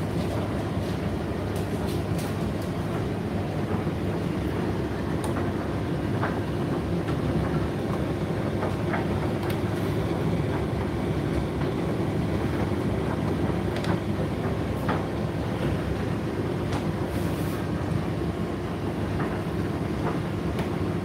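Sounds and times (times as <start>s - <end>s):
tumble dryer drum rumbling: 0.0s - 21.0s.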